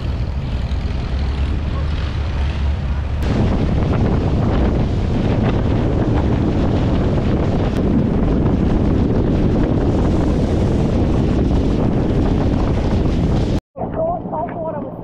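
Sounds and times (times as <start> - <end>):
wind buffeting microphone: 0.0 - 14.2
speedboat running: 0.0 - 14.8.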